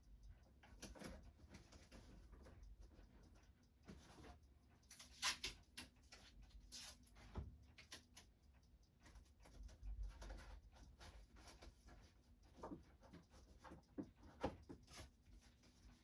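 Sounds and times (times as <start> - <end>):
small clicks: 0.0 - 16.0.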